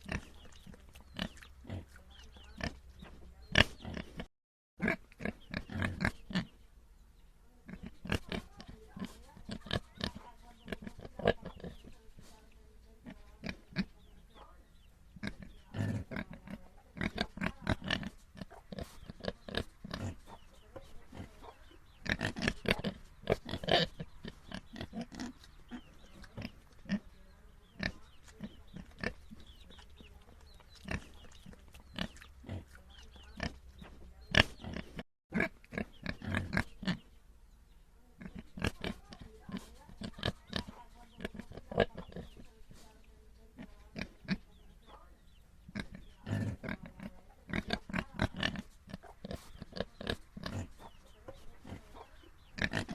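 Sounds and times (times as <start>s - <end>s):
pigs grunting: 0.0s - 6.6s, 7.7s - 12.4s, 15.2s - 37.0s, 38.2s - 42.4s, 45.7s - 52.9s.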